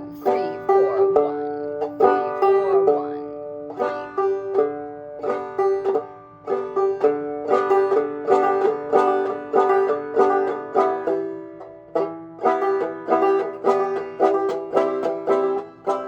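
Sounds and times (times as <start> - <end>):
banjo playing: 0.0 - 16.0.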